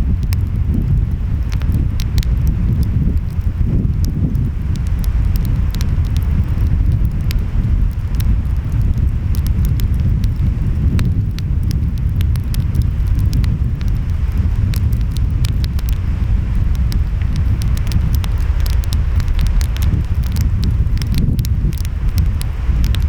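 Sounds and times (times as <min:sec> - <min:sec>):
wind: 0:00.0 - 0:23.0
wood fire crackling: 0:00.0 - 0:23.0.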